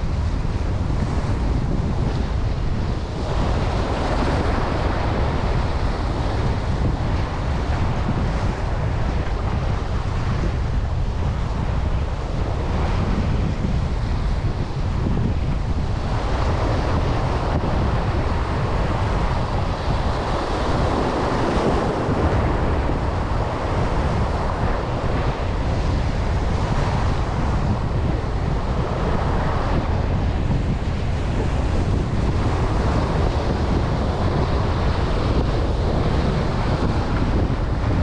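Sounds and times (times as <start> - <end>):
surf washing: 0.0 - 38.0
wind buffeting microphone: 0.0 - 38.0.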